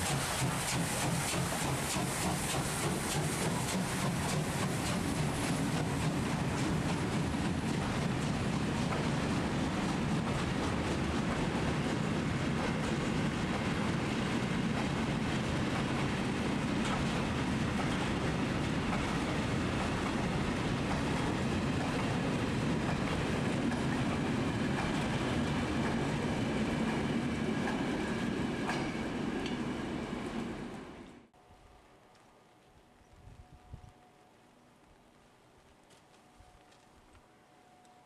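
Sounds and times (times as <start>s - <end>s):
freight train rumbling: 0.0s - 31.4s.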